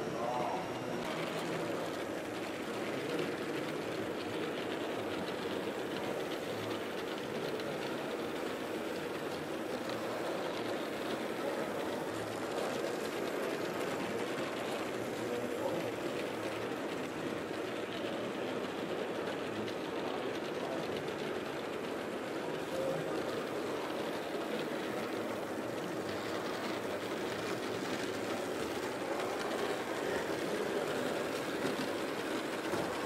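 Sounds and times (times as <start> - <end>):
toy trains running on metal rails: 0.0 - 33.0.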